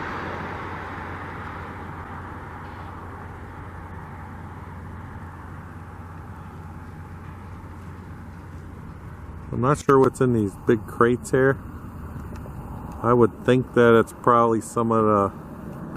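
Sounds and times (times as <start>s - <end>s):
low traffic rumble: 0.0s - 15.9s
vehicle passing: 0.0s - 15.9s.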